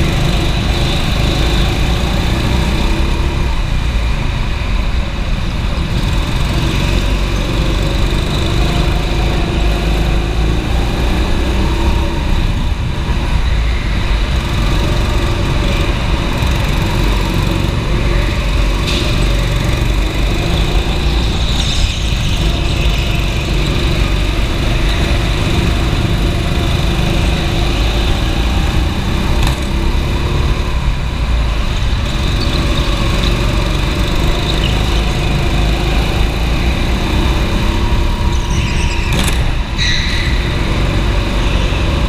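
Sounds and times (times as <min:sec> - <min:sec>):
go-kart engine droning: 0:00.0 - 0:42.0.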